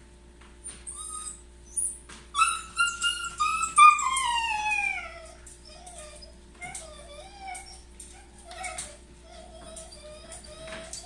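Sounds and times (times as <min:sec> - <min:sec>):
dog whining and yelping: 0:00.7 - 0:11.0.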